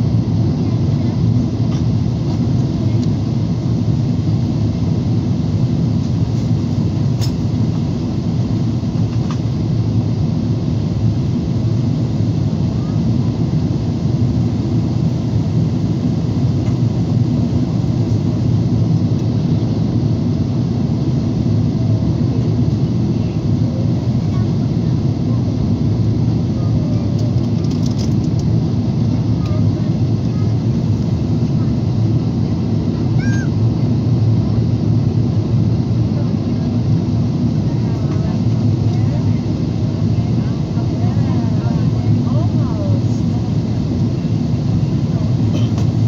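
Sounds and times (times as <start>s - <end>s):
jet engine cabin rumble: 0.0s - 46.0s.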